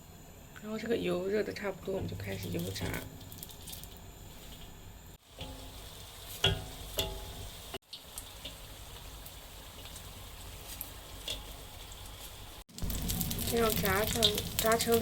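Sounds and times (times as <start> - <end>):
food deep-frying in oil: 0.6 - 15.0.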